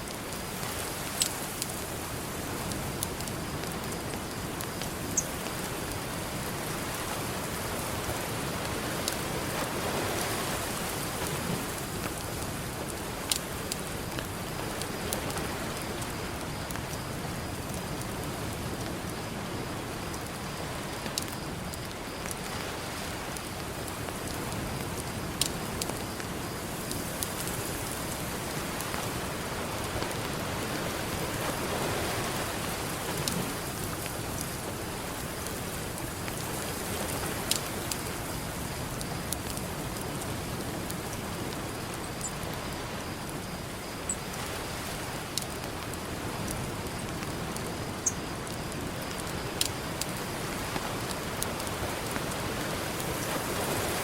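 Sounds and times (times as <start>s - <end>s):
ocean surf: 0.0s - 16.5s, 22.4s - 39.6s, 40.2s - 54.0s
campfire crackling: 0.0s - 54.0s.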